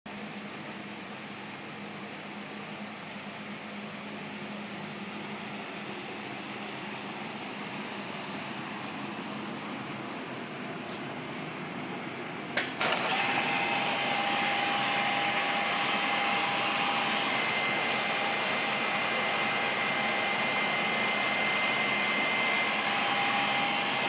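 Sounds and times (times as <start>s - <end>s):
motor hum with whine: 0.1s - 24.0s.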